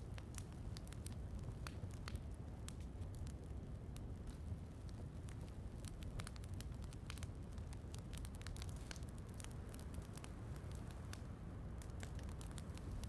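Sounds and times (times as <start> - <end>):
low rumble of rain: 0.0 - 13.0
wood fire crackling: 0.0 - 13.0.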